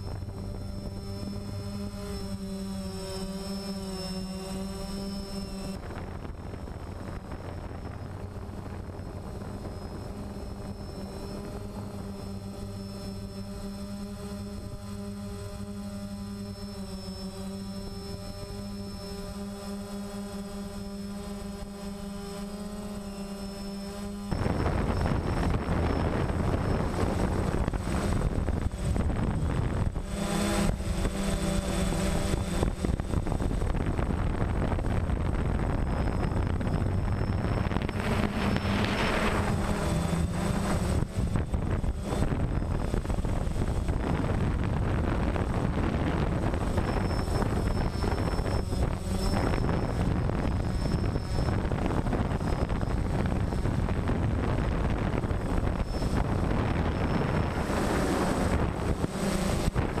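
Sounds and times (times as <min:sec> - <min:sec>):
wind buffeting microphone: 0:00.0 - 0:04.7, 0:05.4 - 0:16.5, 0:24.1 - 1:00.0
drone motors and propellers: 0:00.0 - 1:00.0
high motor whine: 0:00.0 - 1:00.0.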